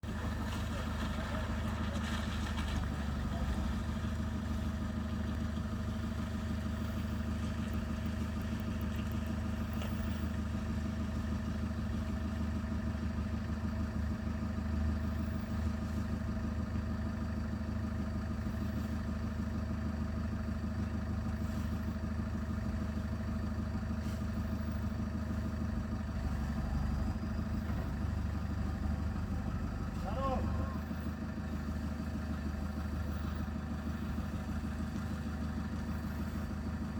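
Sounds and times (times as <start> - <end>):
machinery engine idling: 0.0 - 36.9.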